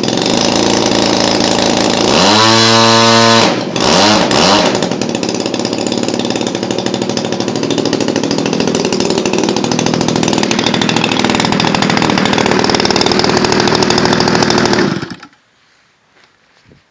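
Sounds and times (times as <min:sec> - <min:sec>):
model airplane engine running: 0:00.0 - 0:15.3.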